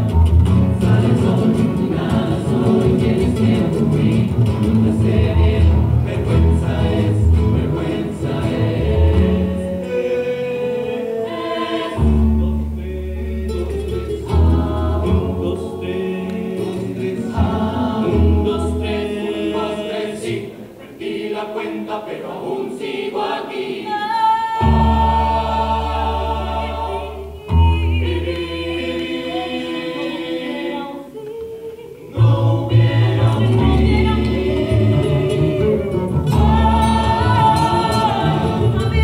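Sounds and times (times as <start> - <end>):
guitar accompaniment: 0.0 - 19.7, 24.6 - 28.8, 31.2 - 39.0
mixed voices singing in harmony: 0.0 - 39.0.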